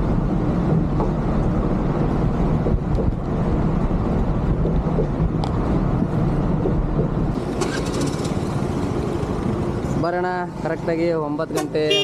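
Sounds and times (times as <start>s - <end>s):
engine rumble: 0.0s - 12.0s
road noise: 0.0s - 12.0s.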